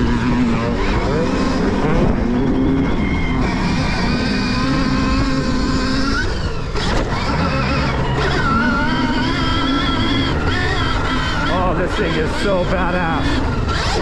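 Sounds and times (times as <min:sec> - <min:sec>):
electric motor whining: 0:00.0 - 0:14.0
rumble of riding noise: 0:00.0 - 0:14.0.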